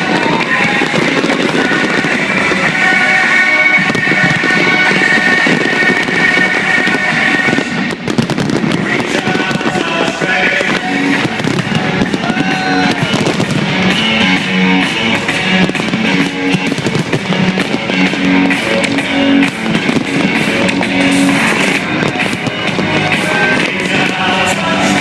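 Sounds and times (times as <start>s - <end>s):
fireworks bursting and crackling: 0.0s - 25.0s
music with held notes: 0.0s - 25.0s.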